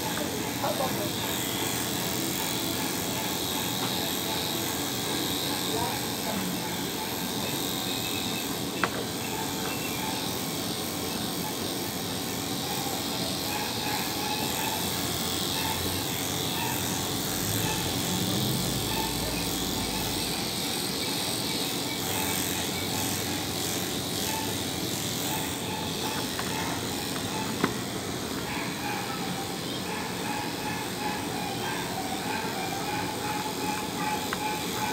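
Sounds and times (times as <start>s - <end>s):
electric clippers running: 0.0s - 34.9s.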